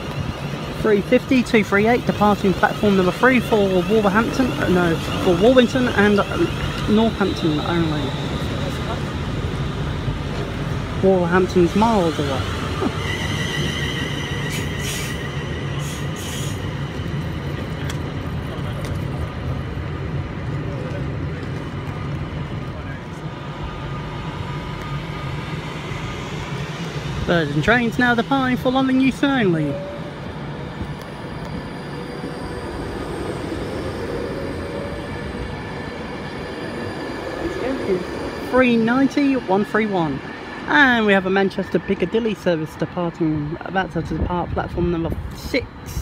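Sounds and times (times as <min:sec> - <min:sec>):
train low rumble: 0:00.0 - 0:46.0.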